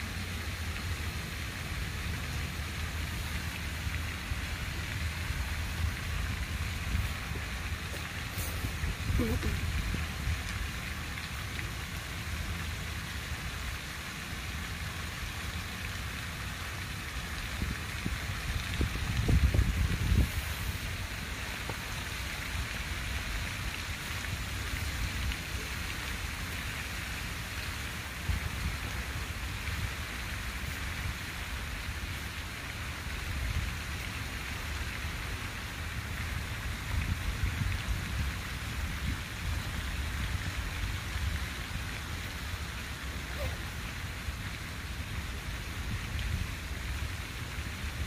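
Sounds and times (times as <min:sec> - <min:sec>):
water fountain splashing: 0:00.0 - 0:48.0.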